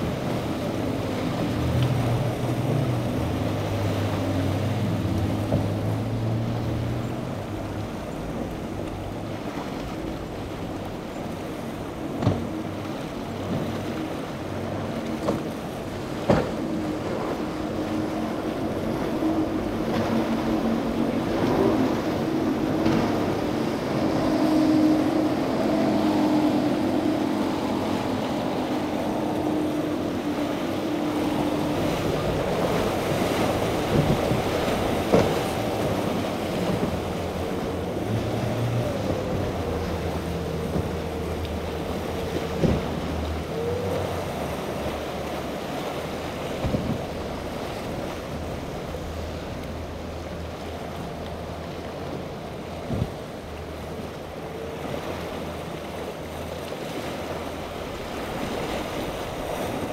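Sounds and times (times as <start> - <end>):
outboard motors droning: 0.0 - 59.9
wave wash: 0.0 - 59.9
wind on microphone: 0.0 - 59.9.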